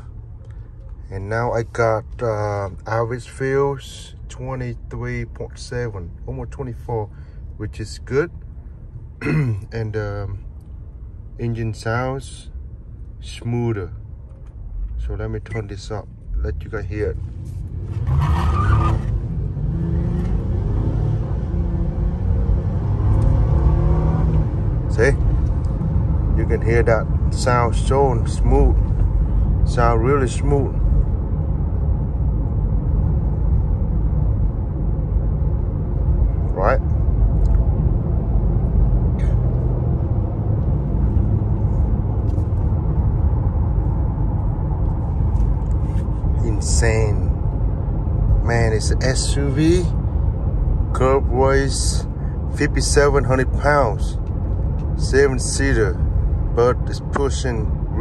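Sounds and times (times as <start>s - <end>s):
car engine low drone: 0.0s - 58.0s.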